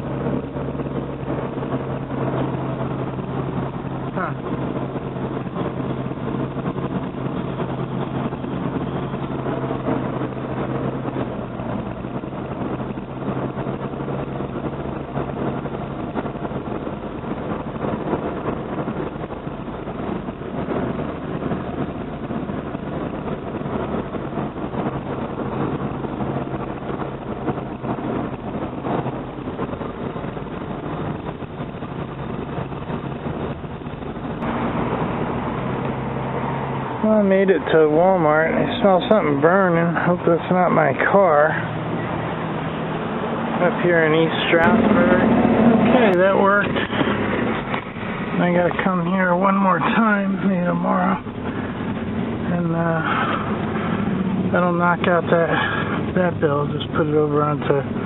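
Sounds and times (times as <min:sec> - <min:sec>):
car engine and road noise: 0:00.0 - 0:58.0
low hum: 0:00.0 - 0:58.0.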